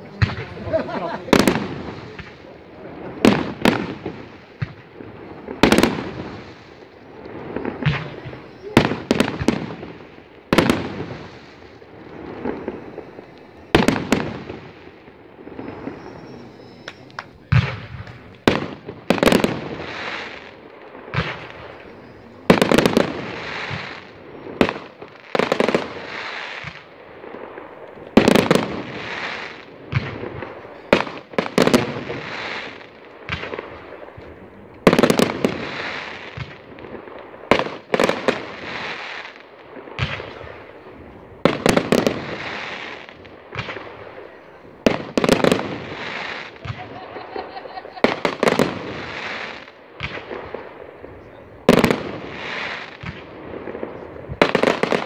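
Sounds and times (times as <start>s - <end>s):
firework crackle and echo: 0.0s - 55.0s
fireworks banging: 0.0s - 55.0s.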